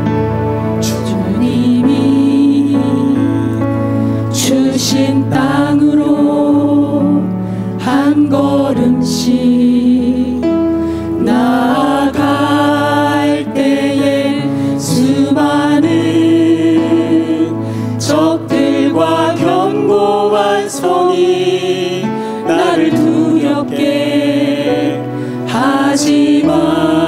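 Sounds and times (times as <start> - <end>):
instrumental accompaniment: 0.0 - 27.0
mixed voices singing worship song: 0.8 - 27.0.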